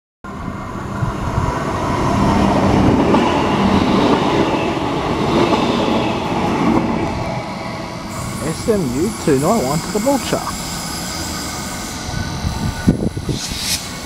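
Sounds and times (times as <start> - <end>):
electric train passing at speed: 0.3 - 14.0.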